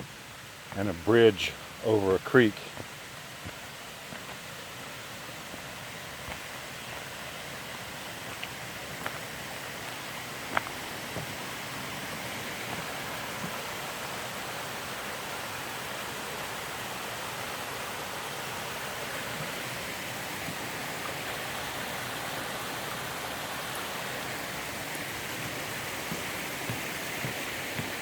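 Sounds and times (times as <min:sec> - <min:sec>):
creek water running: 0:00.0 - 0:28.0.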